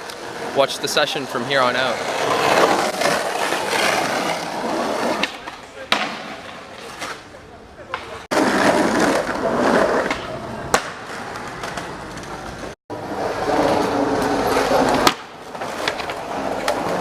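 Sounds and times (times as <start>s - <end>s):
skateboard wheels rolling on pavement: 0.0s - 17.0s
skateboard clacking: 1.9s - 7.3s, 7.9s - 12.7s, 13.4s - 17.0s.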